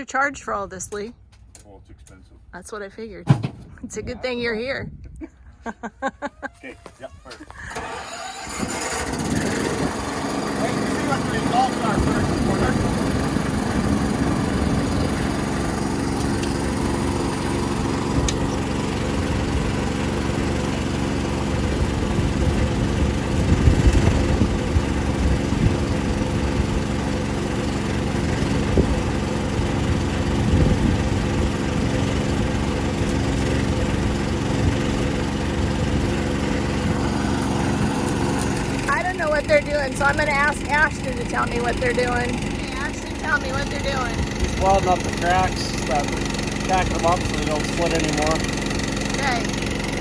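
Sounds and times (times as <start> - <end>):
engine running steadily: 5.4 - 50.0.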